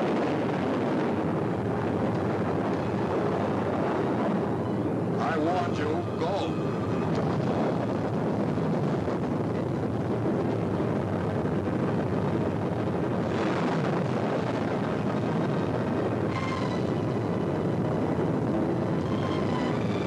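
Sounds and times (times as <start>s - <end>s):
deep volcanic rumble: 0.0s - 20.0s
faint steady tones: 0.0s - 20.0s.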